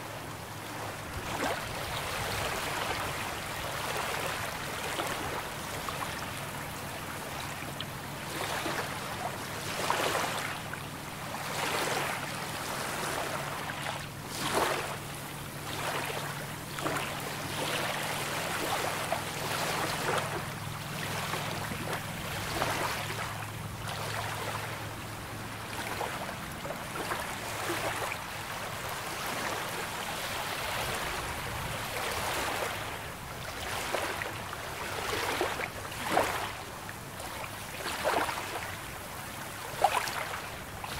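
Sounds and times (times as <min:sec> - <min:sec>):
small waves lapping ashore: 0:00.0 - 0:40.9.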